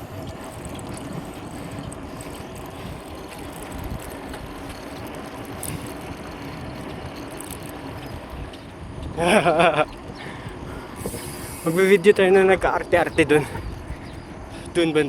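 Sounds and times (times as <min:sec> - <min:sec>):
bicycle road rumble: 0:00.0 - 0:15.0
wind noise on microphone: 0:00.0 - 0:15.0.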